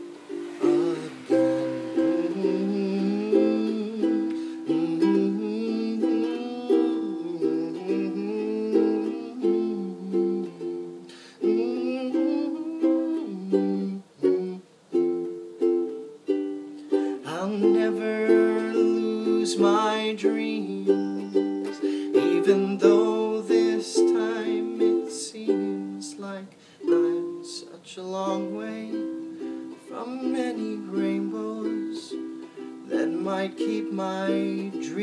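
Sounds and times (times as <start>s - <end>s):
strummed string instrument chords: 0.0s - 35.0s.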